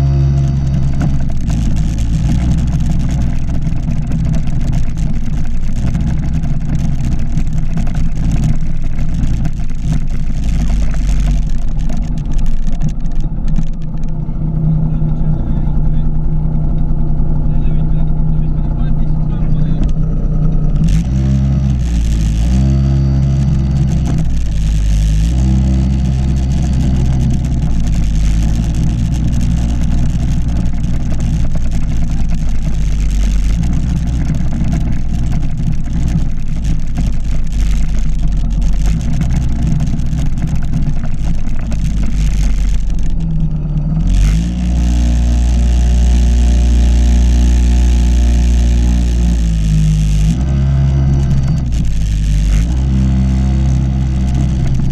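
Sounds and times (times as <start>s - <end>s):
two-stroke engine revving: 0.0s - 54.9s.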